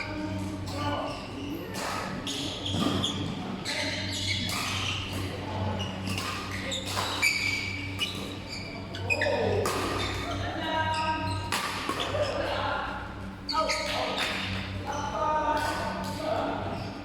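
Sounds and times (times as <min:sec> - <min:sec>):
players' voices: 0:00.0 - 0:17.0
sneakers squeaking: 0:00.0 - 0:17.0
steady low hum: 0:00.0 - 0:17.0.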